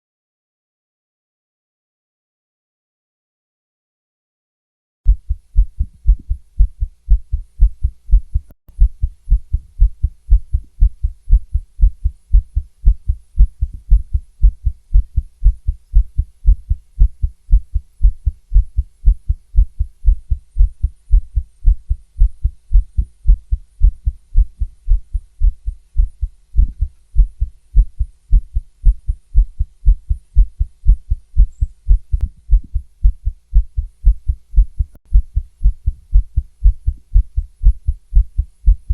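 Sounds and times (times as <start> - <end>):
fast heartbeat through stethoscope: 5.1 - 38.9.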